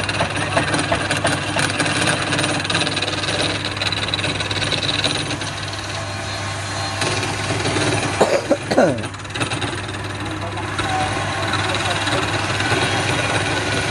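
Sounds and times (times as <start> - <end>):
lathe motor humming: 0.0 - 13.9.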